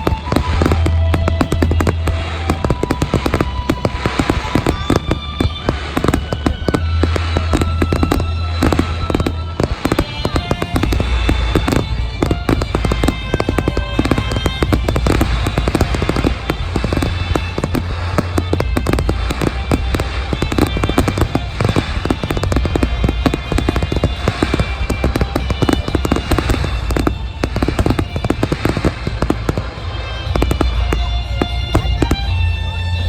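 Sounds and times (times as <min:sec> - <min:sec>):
fireworks bursts and crackles: 0:00.0 - 0:33.0
music playing: 0:00.0 - 0:33.0.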